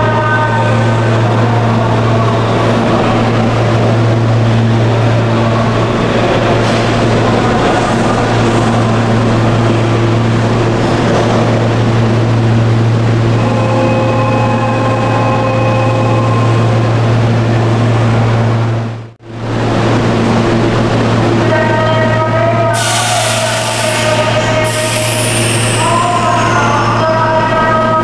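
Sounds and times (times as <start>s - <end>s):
train low drone: 0.0s - 28.0s.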